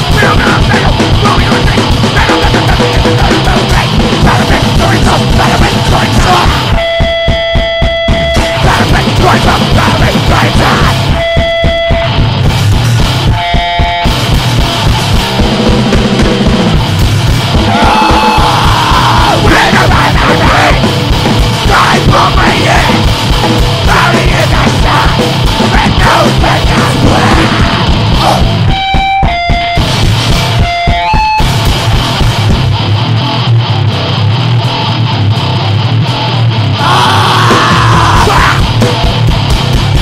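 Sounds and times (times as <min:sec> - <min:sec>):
fast drumming: 0:00.0 - 0:32.8, 0:36.8 - 0:40.0
distorted guitar: 0:00.0 - 0:40.0.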